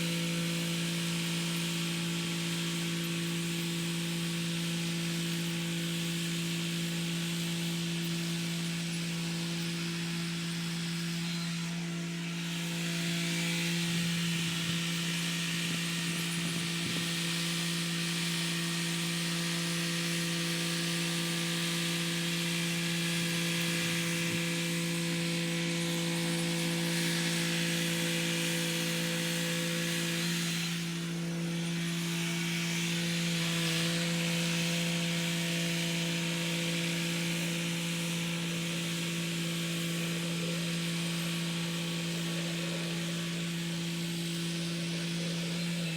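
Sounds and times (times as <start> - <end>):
rotary tiller turning soil: 0.0 - 45.9.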